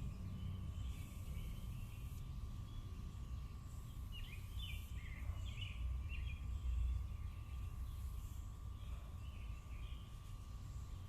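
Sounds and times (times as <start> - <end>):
birds chirping: 0.0 - 11.0
faint steady hum: 0.0 - 11.0.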